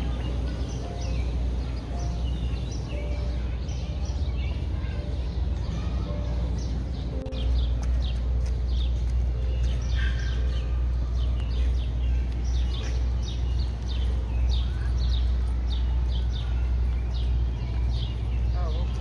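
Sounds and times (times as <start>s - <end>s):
birds chirping: 0.0s - 19.0s
low city background rumble: 0.0s - 19.0s.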